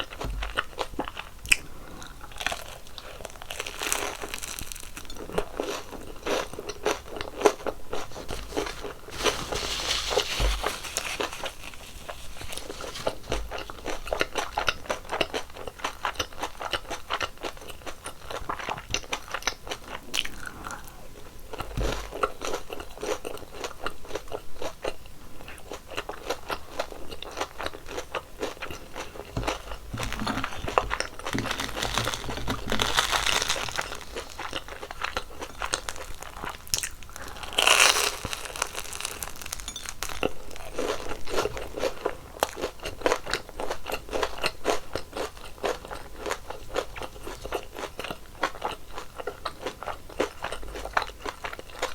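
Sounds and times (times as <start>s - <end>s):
crunching and chewing fried dough: 0.0s - 51.9s.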